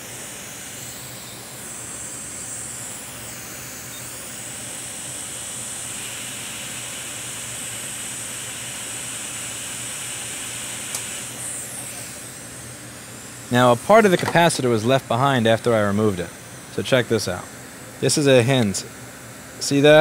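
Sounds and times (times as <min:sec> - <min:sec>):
hot air station hissing: 0:00.0 - 0:20.0.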